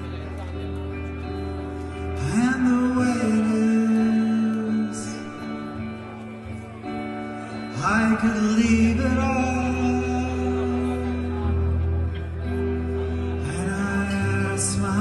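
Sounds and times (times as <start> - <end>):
electric guitar: 0.0 - 15.0.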